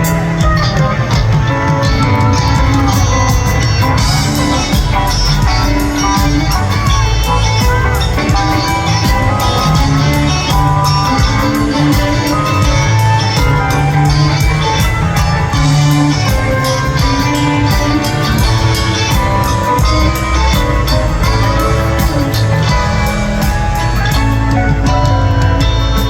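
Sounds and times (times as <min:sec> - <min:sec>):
bass: 0:00.0 - 0:26.0
guitar notes: 0:00.0 - 0:26.0
steady drum beat: 0:00.0 - 0:26.0.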